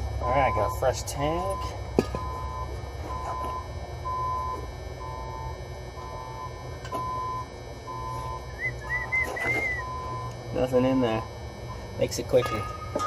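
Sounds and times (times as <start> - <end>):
low steady hum: 0.0 - 13.0
electronic beeping: 0.2 - 13.0.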